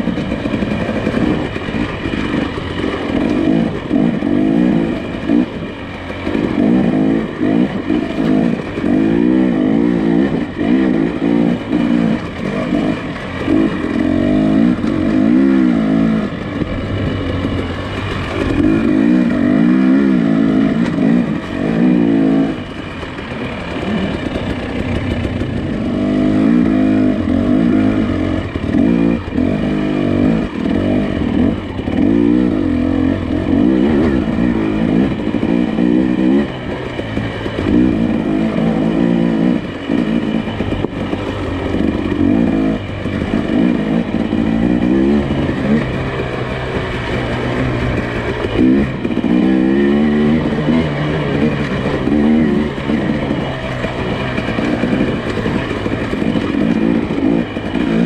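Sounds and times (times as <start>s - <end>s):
engine revving off-road: 0.0s - 58.0s
vehicle rattling: 0.0s - 58.0s.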